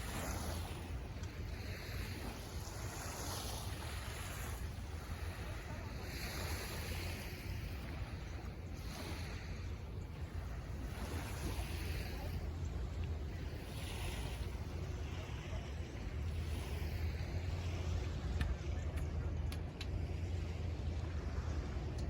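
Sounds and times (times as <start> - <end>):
waves breaking on beach: 0.0 - 22.0
wind rumbling on microphone: 0.0 - 22.0.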